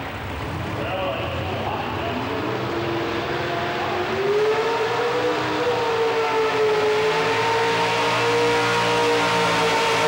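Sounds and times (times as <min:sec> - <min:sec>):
truck engine at high revs: 0:00.0 - 0:10.0.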